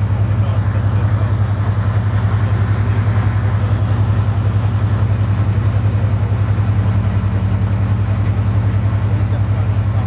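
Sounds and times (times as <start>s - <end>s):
diesel locomotive engine droning: 0.0s - 10.0s.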